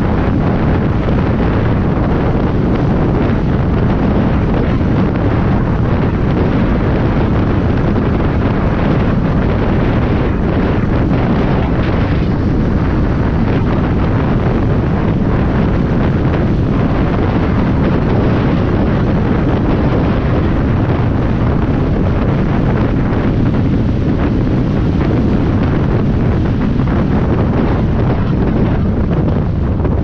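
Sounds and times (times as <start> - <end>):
vehicle engine and tyre noise: 0.0 - 30.0
wind buffeting microphone: 0.0 - 30.0.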